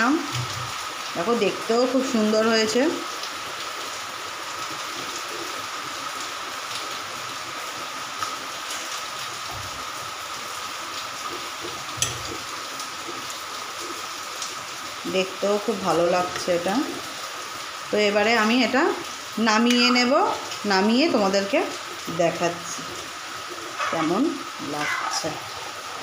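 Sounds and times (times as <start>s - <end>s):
stew bubbling in a pan: 0.0s - 26.0s.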